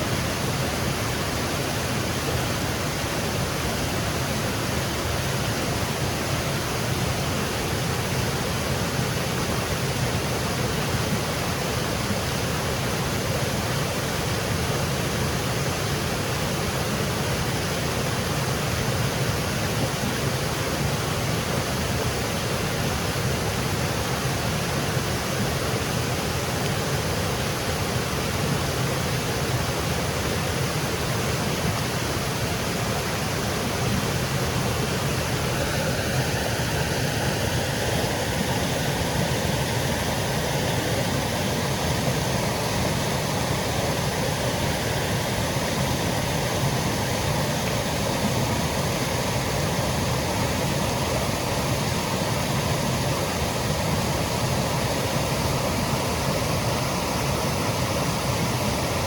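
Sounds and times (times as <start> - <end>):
waterfall cascading: 0.0 - 59.0.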